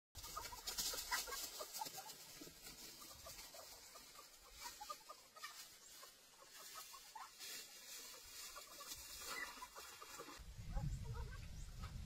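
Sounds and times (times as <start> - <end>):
birds chirping and clucking: 0.2 - 12.0.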